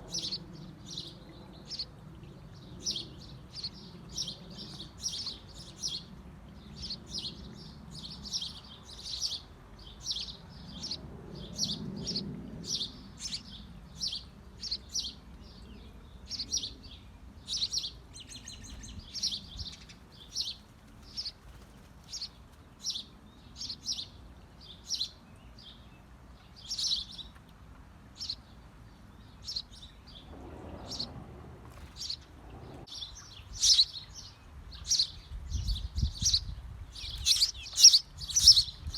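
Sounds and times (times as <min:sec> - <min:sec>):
small birds chirping: 0:00.0 - 0:27.5, 0:28.2 - 0:38.9.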